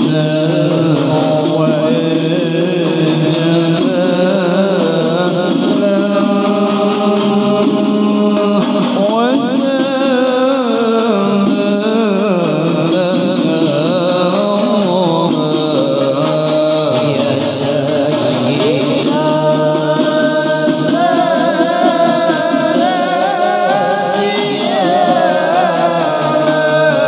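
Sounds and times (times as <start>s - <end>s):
man singing devotional song: 0.0s - 27.0s.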